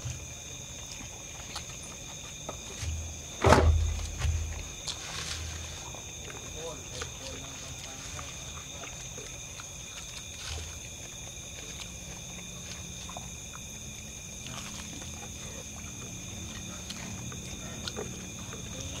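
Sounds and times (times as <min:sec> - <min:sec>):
night insects droning: 0:00.0 - 0:19.0
people chewing and smacking lips: 0:00.0 - 0:19.0.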